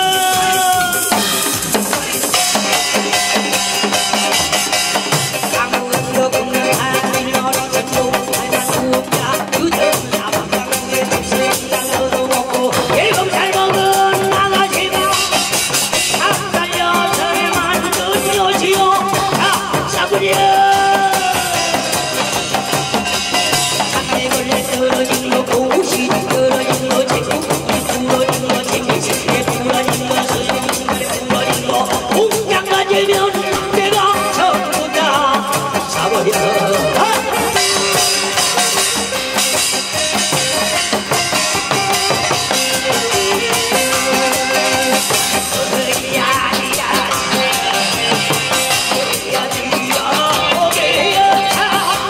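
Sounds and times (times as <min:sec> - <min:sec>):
drums playing: 0:00.0 - 0:52.0.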